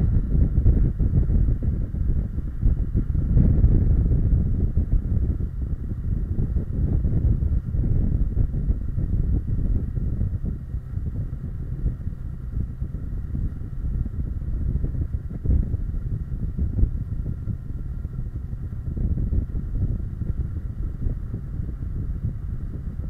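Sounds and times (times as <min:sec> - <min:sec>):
motorcycle engine running: 0:00.0 - 0:23.0
wind rumble on microphone: 0:00.0 - 0:23.0.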